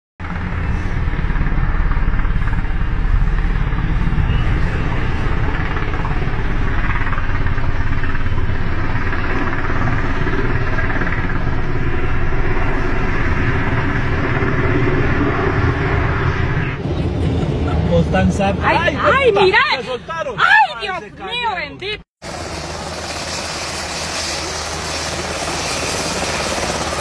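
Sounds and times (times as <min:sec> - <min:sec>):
helicopter flying overhead: 0:00.2 - 0:19.9, 0:22.2 - 0:27.0.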